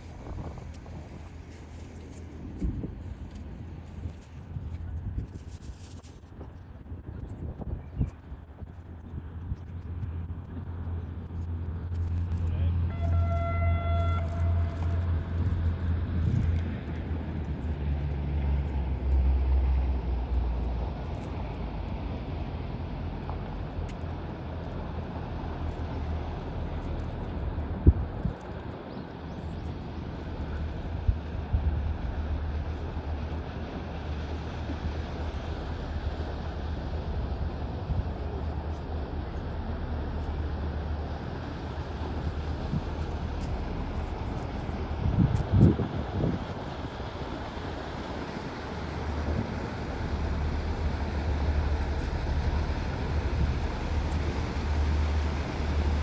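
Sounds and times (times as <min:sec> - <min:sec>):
noisy water wash: 0:00.0 - 0:56.0
ship engines rumbling: 0:08.3 - 0:56.0.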